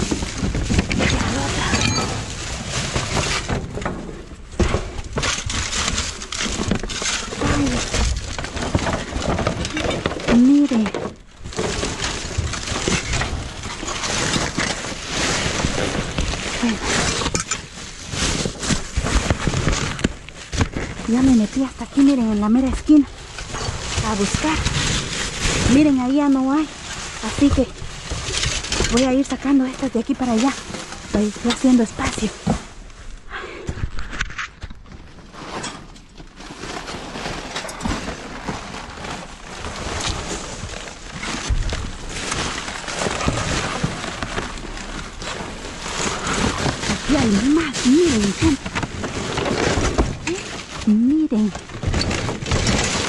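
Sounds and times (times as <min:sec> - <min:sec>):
debris crunching and rustling: 0:00.0 - 0:53.0.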